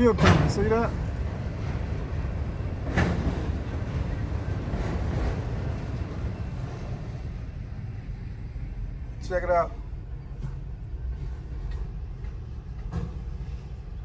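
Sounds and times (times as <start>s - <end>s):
train clatter: 0.0s - 8.5s, 9.2s - 14.0s
train rumbling past: 0.0s - 14.0s.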